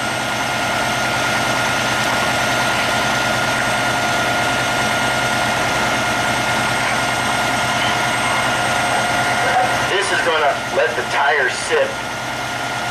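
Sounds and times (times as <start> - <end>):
constant engine whine: 0.0 - 12.9
diesel engine idling: 0.0 - 12.9.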